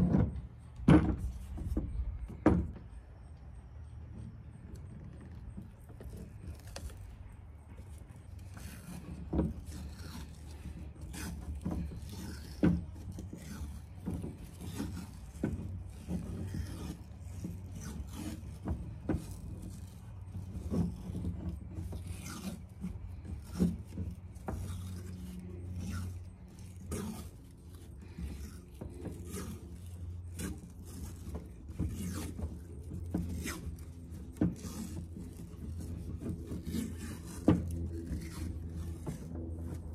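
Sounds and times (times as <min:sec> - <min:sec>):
steady low hum: 0:00.0 - 0:39.9
tape pulled off roll rasping: 0:00.0 - 0:39.9.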